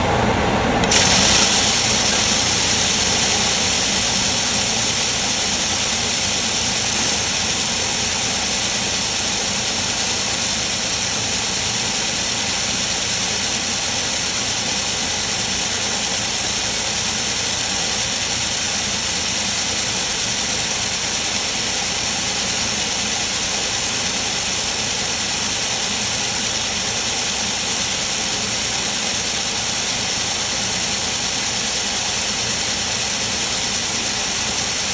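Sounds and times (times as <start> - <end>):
welding hiss: 0.8 - 34.9.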